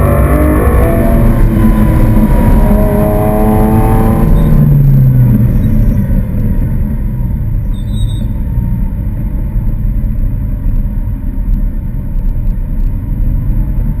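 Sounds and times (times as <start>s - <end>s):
car engine deep rumble: 0.0s - 14.0s.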